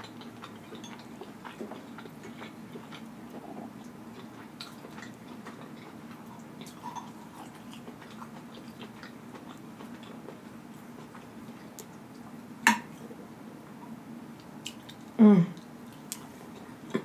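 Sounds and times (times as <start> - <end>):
chewing and mouth noises: 0.0 - 13.2, 13.8 - 17.0.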